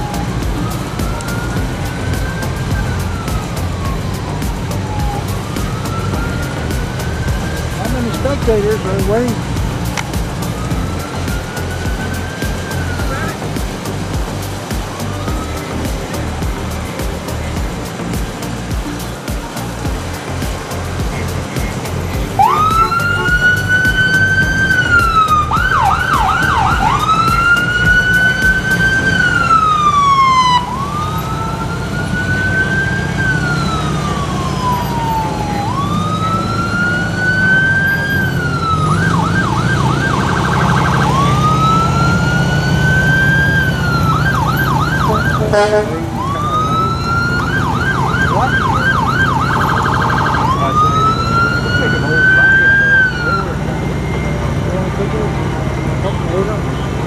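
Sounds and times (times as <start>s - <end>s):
siren yelping: 0.0s - 17.6s, 21.5s - 56.2s
siren wailing: 0.0s - 57.0s
vehicles rumbling: 0.0s - 57.0s.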